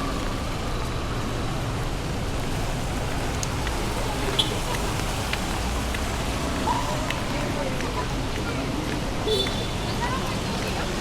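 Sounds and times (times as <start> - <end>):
heavy rain: 0.0 - 11.0
road traffic rumble: 0.0 - 11.0.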